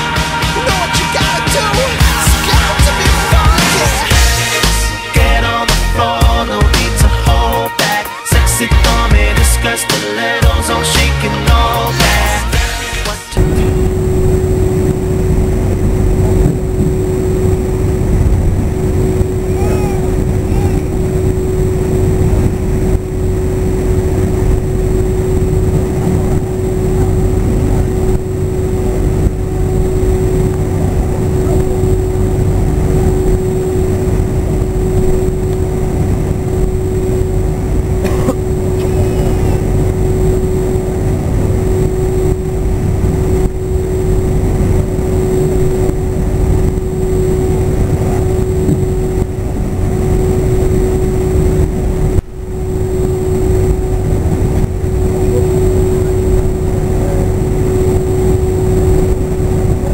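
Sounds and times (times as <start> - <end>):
jet cabin engine hum: 0.0 - 59.9.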